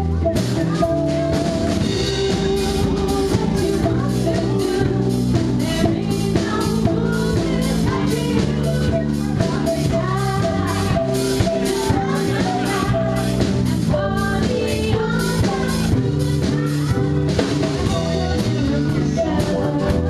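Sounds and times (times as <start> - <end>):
bass guitar: 0.0 - 20.0
drum kit beat: 0.0 - 20.0
guitar: 0.0 - 20.0
woman singing into a microphone: 0.0 - 20.0.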